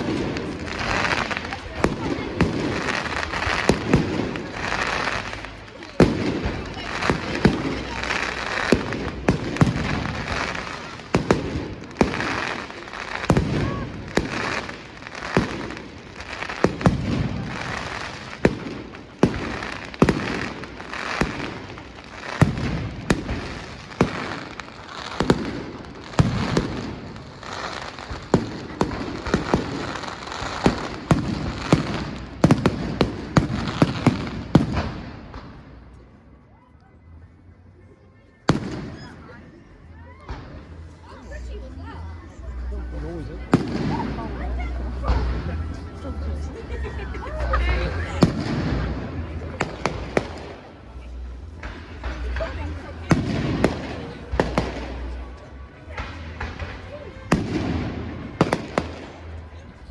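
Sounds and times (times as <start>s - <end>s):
fireworks bangs: 0.0s - 36.0s, 38.5s - 39.4s, 43.3s - 59.7s.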